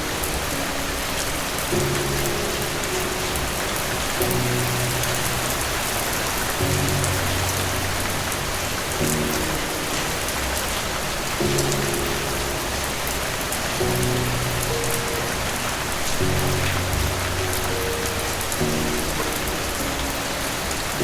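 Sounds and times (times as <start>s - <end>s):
heavy rain hiss: 0.0s - 21.0s
soft low music chords: 0.0s - 21.0s.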